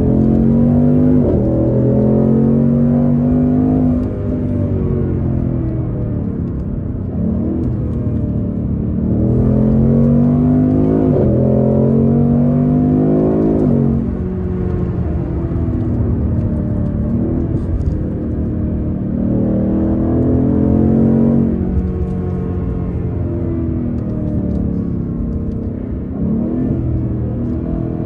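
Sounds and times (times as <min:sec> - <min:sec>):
car engine exhaust accelerating: 0:00.0 - 0:28.0.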